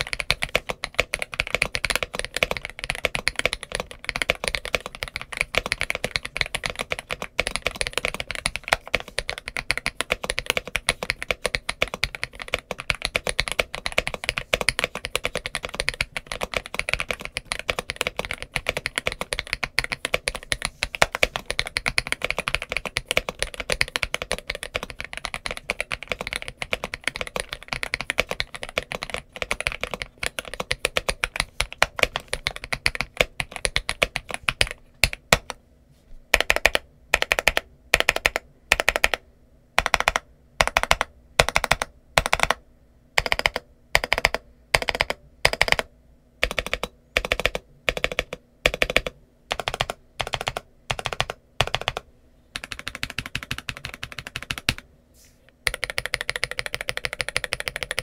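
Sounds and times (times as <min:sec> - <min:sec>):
fast mechanical keyboard typing: 0:00.0 - 0:35.6, 0:36.3 - 0:39.2, 0:39.8 - 0:42.6, 0:43.2 - 0:54.8, 0:55.6 - 0:58.0.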